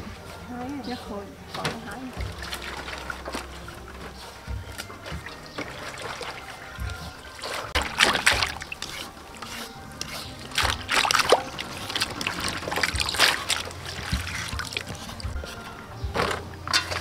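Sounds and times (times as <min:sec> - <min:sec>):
water trickling: 0:00.0 - 0:17.0
water splashing in metal basin: 0:01.4 - 0:17.0.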